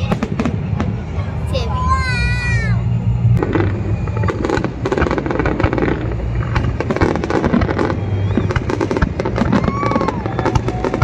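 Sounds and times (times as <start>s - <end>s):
fireworks bangs and crackling pops: 0.0s - 1.6s, 3.4s - 11.0s
low rumble: 0.0s - 11.0s.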